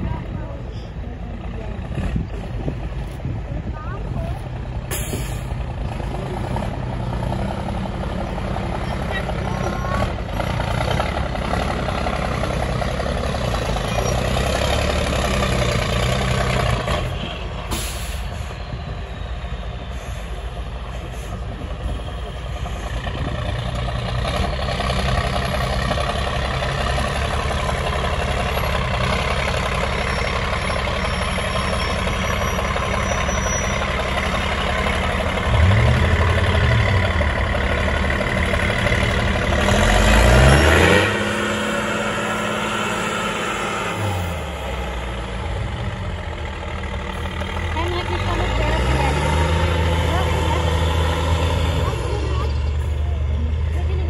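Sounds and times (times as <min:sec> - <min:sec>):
truck diesel engine under load: 0:00.0 - 0:54.0.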